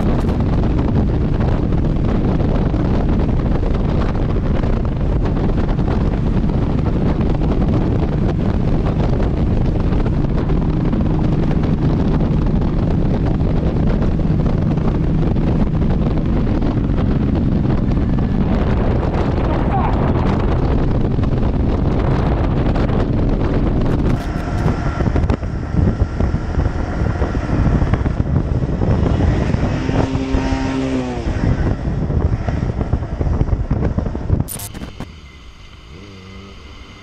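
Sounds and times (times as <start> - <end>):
motorcycle engine drone: 0.0 - 37.0
wind rushing on microphone: 0.0 - 37.0.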